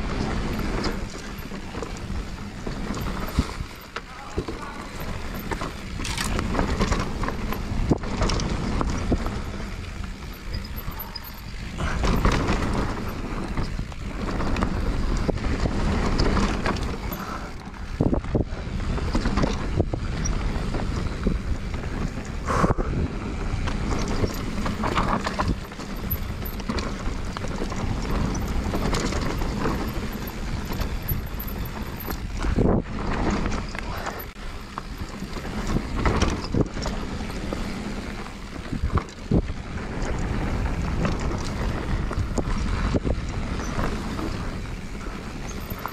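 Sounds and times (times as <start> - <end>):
bike tyres rumbling and rattling: 0.0 - 45.9
wind buffeting microphone: 0.0 - 45.9.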